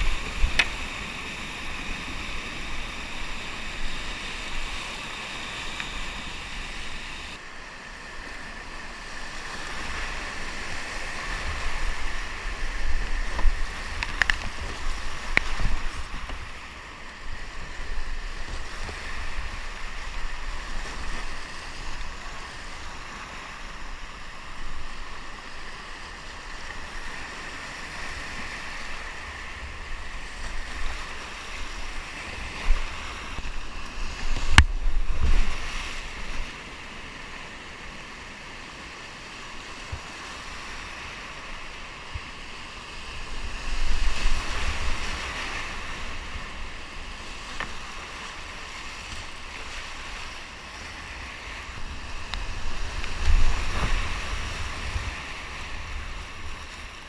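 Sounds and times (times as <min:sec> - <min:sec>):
whitewater rushing and splashing: 0:00.0 - 0:57.0.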